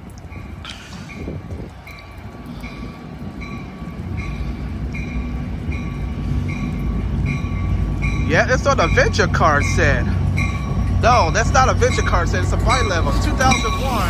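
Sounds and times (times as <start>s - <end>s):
diesel locomotive engine rumble: 0.0s - 14.0s
locomotive bell ringing: 0.3s - 14.0s.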